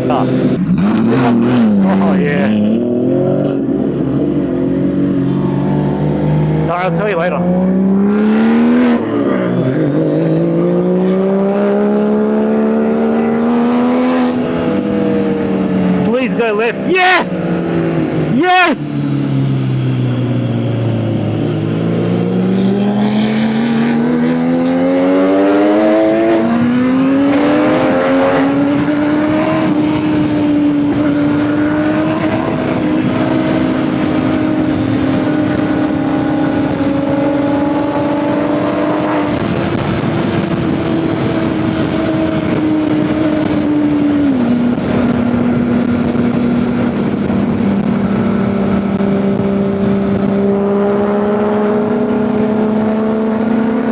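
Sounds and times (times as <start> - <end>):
motorcycle engine revving: 0.0 - 16.1, 19.0 - 53.9.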